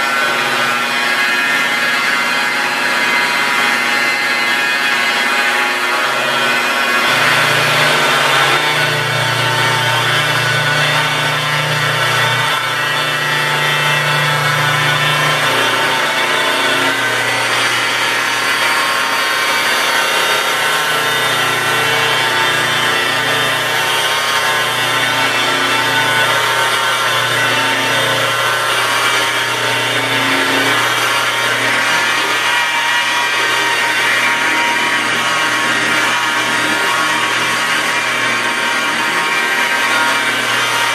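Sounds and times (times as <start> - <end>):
polishing buffer motor hum: 0.0 - 40.9.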